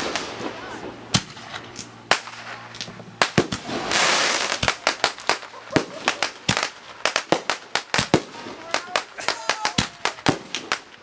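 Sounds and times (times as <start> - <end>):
firework hiss: 0.0 - 11.0
fireworks bangs: 0.0 - 11.0.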